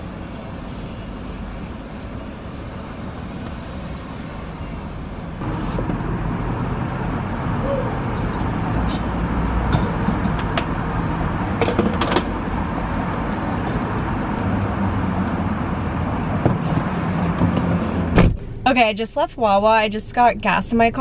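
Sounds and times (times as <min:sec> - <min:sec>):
steady hum and rushing noise: 0:00.0 - 0:19.2.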